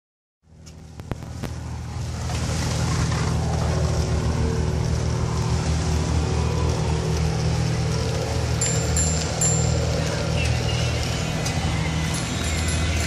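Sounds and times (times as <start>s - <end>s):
low engine drone: 0.4s - 13.0s.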